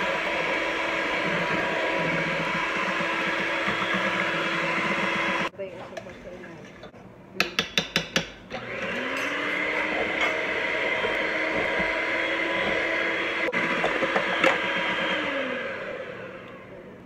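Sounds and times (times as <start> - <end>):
electric hand mixer whirring: 0.0 - 5.5, 8.6 - 17.0.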